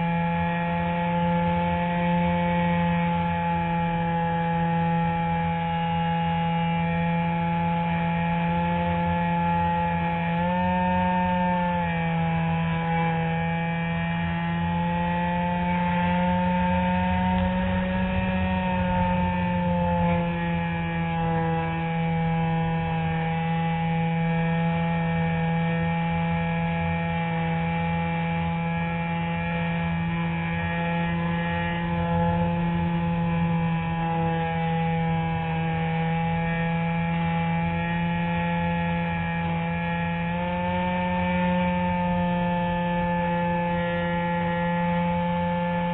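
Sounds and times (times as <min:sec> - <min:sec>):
electric motor and propeller whine: 0:00.0 - 0:45.9.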